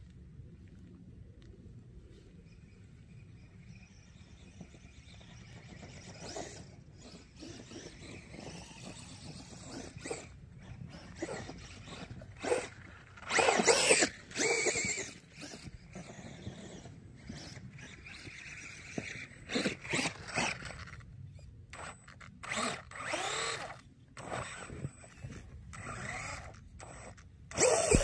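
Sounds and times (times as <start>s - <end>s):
electric motor whine revving: 4.4s - 21.0s, 21.8s - 28.0s.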